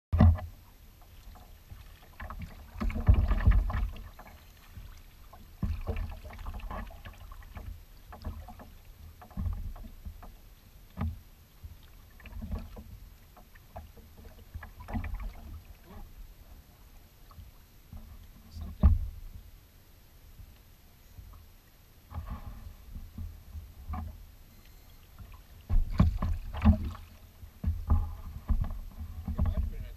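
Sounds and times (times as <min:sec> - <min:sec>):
kayak paddle splashing: 0:00.2 - 0:19.3, 0:21.3 - 0:29.9
water lapping against hull: 0:00.2 - 0:29.9.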